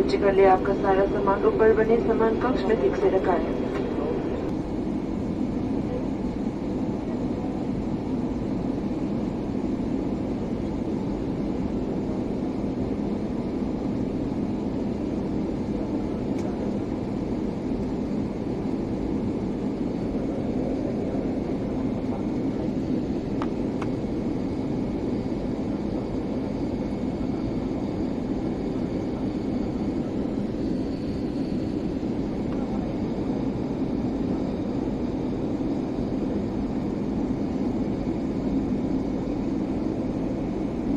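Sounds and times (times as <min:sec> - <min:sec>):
jet cabin engine and airflow rush: 0:00.0 - 0:40.9.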